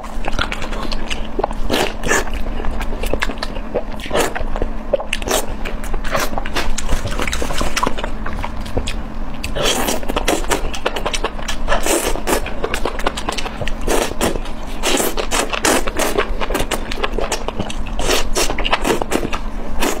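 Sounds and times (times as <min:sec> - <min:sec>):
person chewing and slurping: 0:00.0 - 0:20.0.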